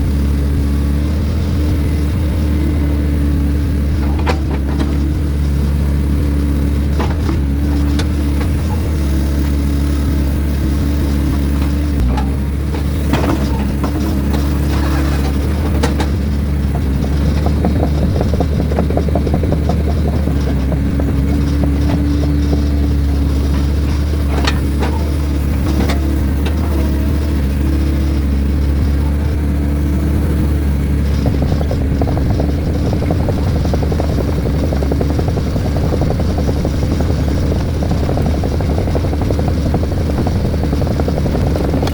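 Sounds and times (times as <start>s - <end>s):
heavy diesel engine droning: 0.0s - 41.9s.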